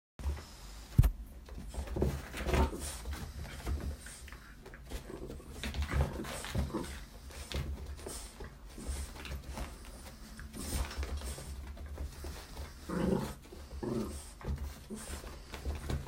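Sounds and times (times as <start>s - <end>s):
small dog panting: 1.6s - 16.0s.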